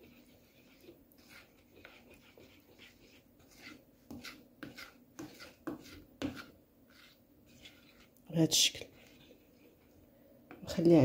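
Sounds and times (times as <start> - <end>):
spatula scraping plastic bowl: 0.0 - 10.8.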